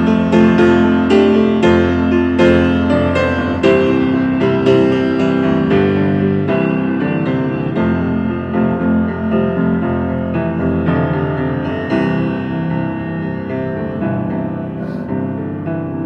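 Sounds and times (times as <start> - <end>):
piano playing chords: 0.0 - 16.0.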